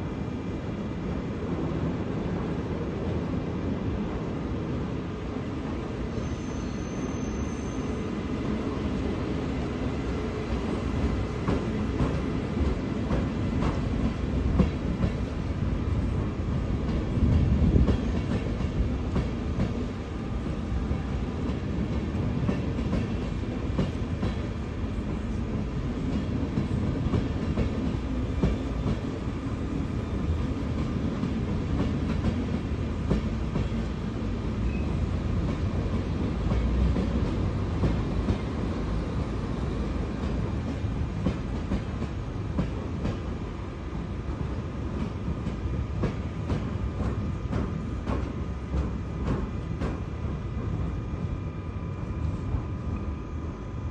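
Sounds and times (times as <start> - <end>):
train rumbling past: 0.0 - 53.9.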